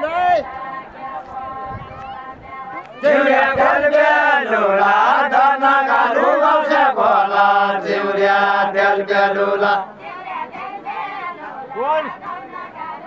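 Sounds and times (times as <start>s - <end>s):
men singing in unison: 0.3s - 13.0s.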